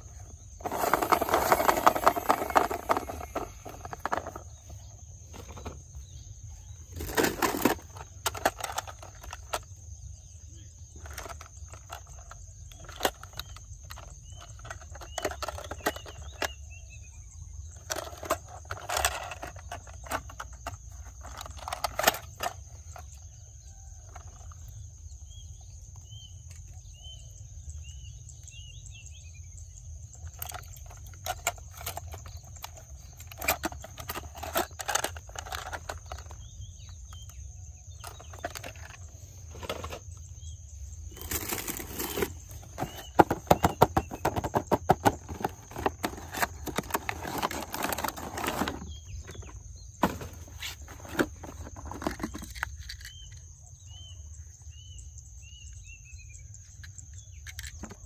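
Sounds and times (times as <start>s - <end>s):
plastic toy cars clattering: 0.0s - 17.0s, 17.6s - 26.8s, 30.1s - 53.5s, 56.6s - 58.0s
birds chirping: 0.0s - 58.0s.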